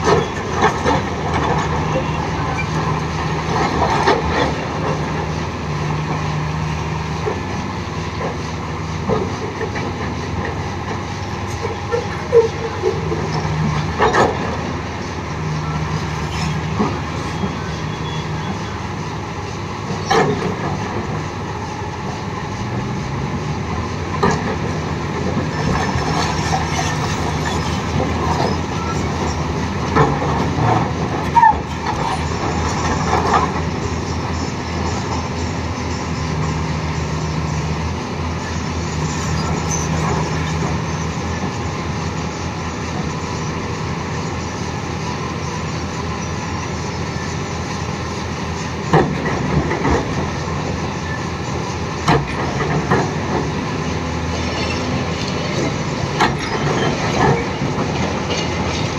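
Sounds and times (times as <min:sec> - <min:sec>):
excavator engine and hydraulics: 0:00.0 - 0:58.9.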